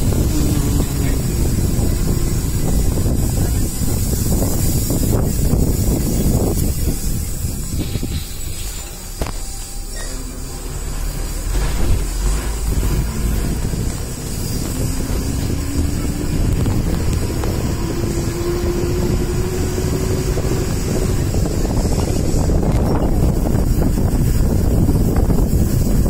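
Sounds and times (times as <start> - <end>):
wind buffeting microphone: 0.0 - 9.6, 10.6 - 26.0
vehicle engine and road noise: 0.0 - 26.0.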